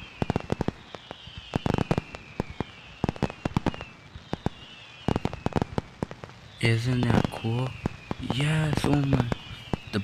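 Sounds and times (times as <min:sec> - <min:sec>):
faint falling whistles: 0:00.0 - 0:05.8, 0:06.4 - 0:10.0
fireworks popping and crackling: 0:00.0 - 0:10.0.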